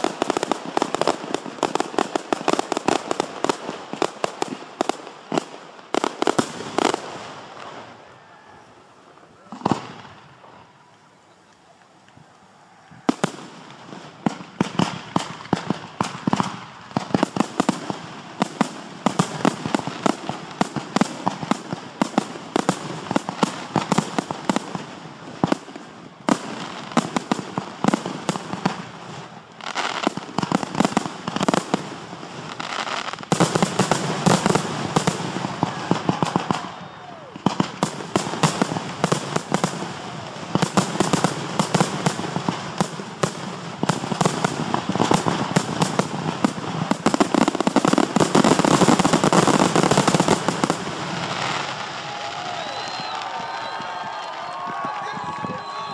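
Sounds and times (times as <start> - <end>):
fireworks pops and booms: 0.0 - 7.9, 9.5 - 12.2, 13.0 - 55.9.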